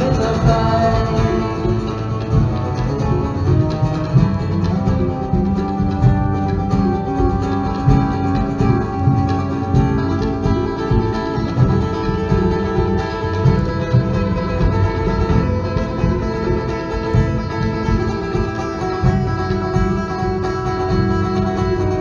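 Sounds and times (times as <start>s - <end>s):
hand drums: 0.0s - 22.0s
live band music: 0.0s - 22.0s
string instrument: 0.0s - 22.0s.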